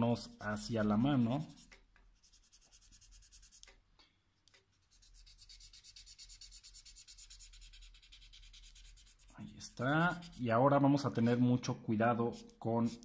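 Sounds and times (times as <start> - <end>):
marker scribbling on paper: 0.6 - 3.8, 4.6 - 11.4, 12.1 - 13.0.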